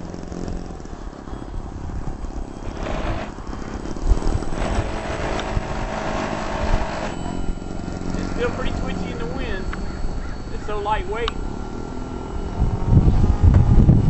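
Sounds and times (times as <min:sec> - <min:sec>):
model airplane motor whining: 0:00.0 - 0:14.0
steady low rumble: 0:00.0 - 0:14.0.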